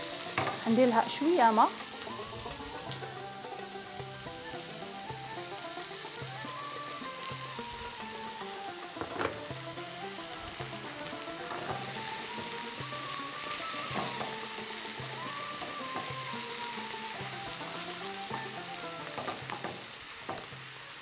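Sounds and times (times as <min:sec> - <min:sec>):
background music: 0:00.0 - 0:21.0
vegetables sizzling in frying pan: 0:00.0 - 0:21.0.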